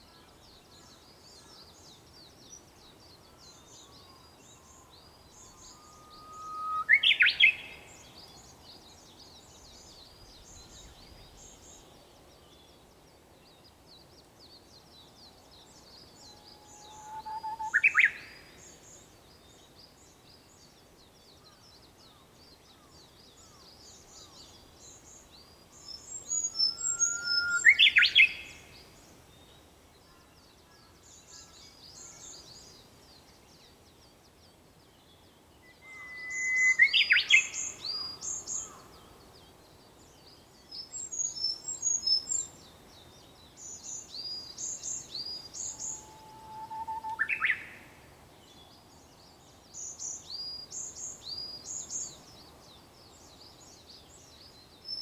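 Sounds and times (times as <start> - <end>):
warbler singing whistled song: 0.6 - 12.8, 13.4 - 29.7, 31.0 - 55.0.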